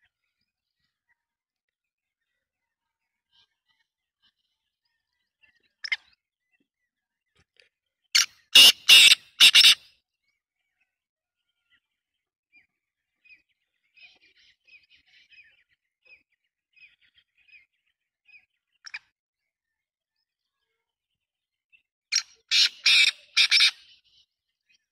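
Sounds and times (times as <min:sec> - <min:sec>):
soft bird chirps: 0:00.0 - 0:24.9.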